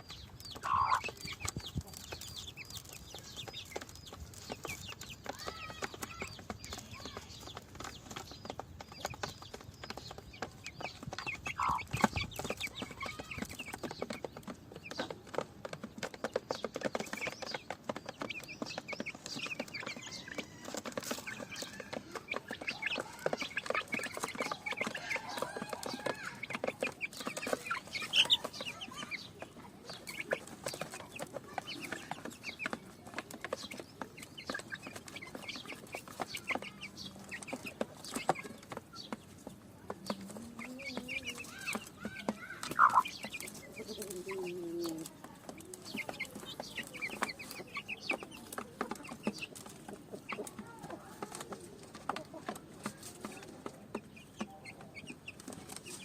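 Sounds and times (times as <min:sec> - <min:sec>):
hen clucking: 0:00.0 - 0:08.3, 0:10.1 - 0:14.3, 0:18.1 - 0:56.0
chicks peeping: 0:00.0 - 0:56.0.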